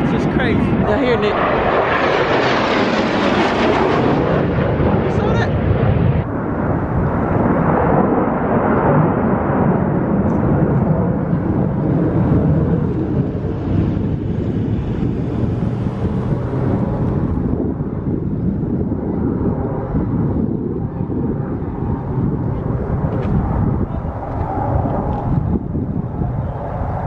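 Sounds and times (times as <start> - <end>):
airplane engine flying overhead: 0.0 - 27.0.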